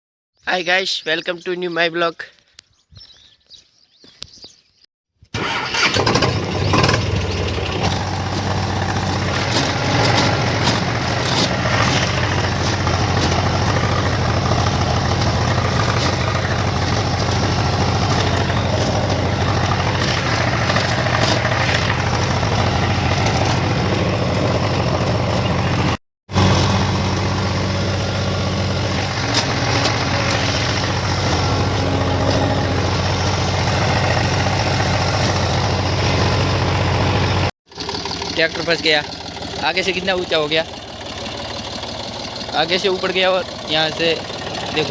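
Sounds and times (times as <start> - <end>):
tractor engine running: 5.3 - 44.9.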